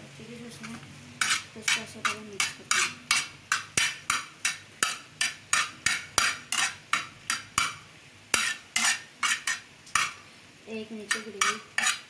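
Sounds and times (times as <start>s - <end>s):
metal spoon scraping steel pan: 0.6s - 10.2s, 11.0s - 12.0s.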